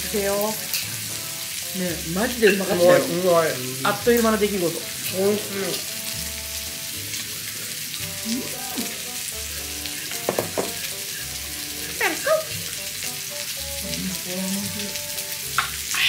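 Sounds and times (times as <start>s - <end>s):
pork belly sizzling on a grill: 0.0s - 16.0s.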